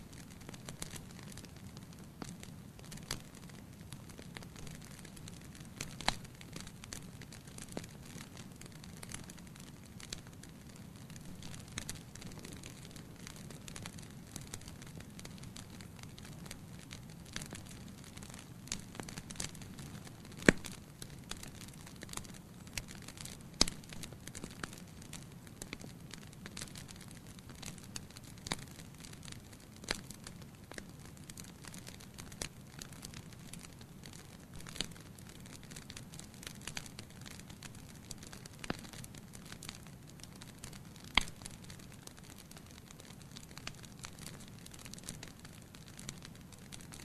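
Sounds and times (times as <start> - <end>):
firewood crackling and popping: 0.0 - 47.0.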